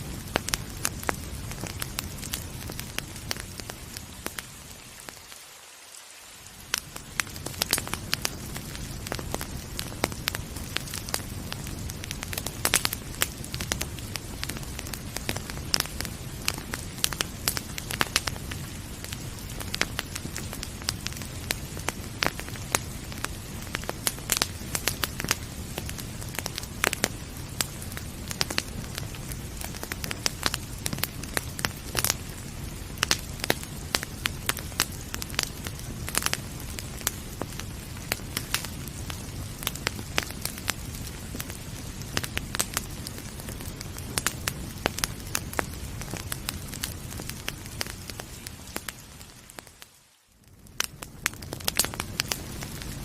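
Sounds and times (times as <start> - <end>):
wood fire crackling and popping: 0.0 - 5.4, 6.2 - 53.0
rain hissing: 0.0 - 53.0.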